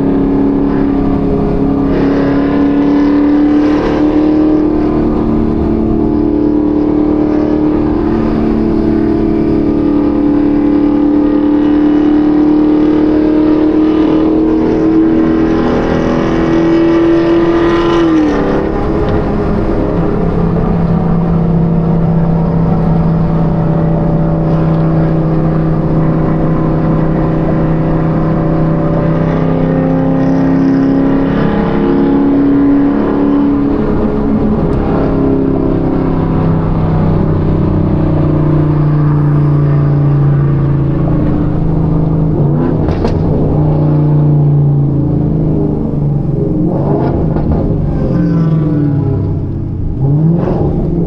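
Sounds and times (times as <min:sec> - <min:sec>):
supercharged car engine running: 0:00.0 - 0:51.0.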